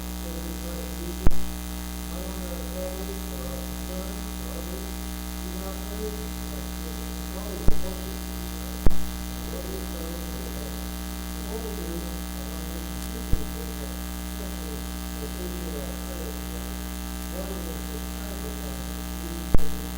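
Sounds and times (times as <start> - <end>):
electrical mains hum: 0.0 - 19.9
faint indistinct voices: 0.2 - 19.9.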